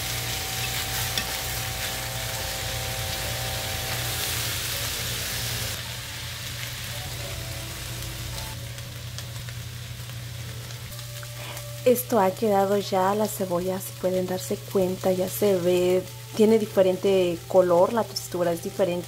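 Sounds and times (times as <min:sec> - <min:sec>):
chicken sizzling in a frying pan: 0:00.0 - 0:19.0.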